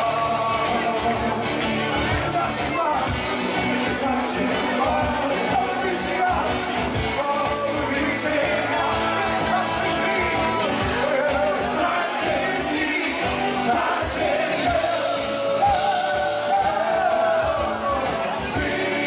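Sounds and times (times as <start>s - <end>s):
live band music: 0.0s - 19.0s
person singing: 0.0s - 19.0s
steady drum beat: 0.0s - 19.0s.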